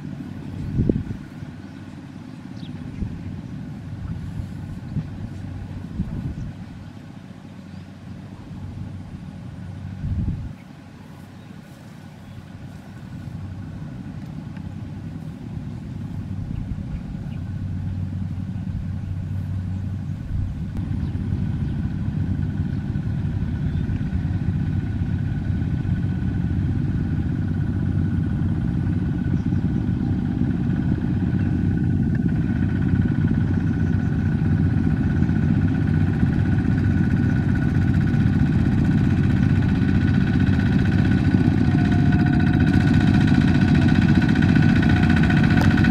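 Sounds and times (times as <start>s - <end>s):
diesel tractor engines chugging: 0.0s - 45.9s.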